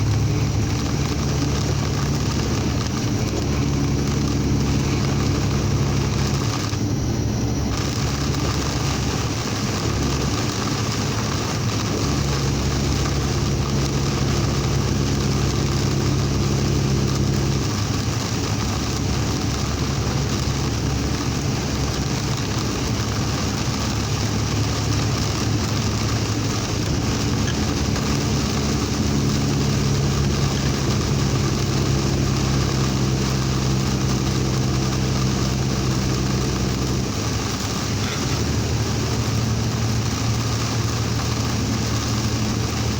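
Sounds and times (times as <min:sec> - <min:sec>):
heavy rain and road spray: 0:00.0 - 0:06.9, 0:07.6 - 0:42.9
vehicle engine drone: 0:00.0 - 0:42.9.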